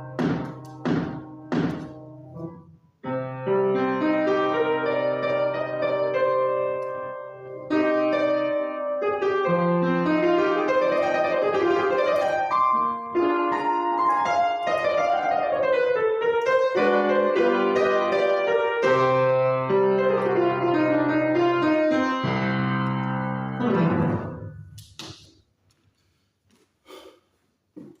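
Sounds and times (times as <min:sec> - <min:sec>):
piano playing: 0:00.0 - 0:24.8.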